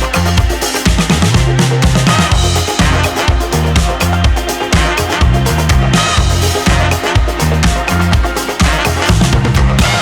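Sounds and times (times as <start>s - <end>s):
dance music: 0.0s - 10.0s
pulsing bass line: 0.0s - 10.0s
steady drum beat: 0.0s - 10.0s.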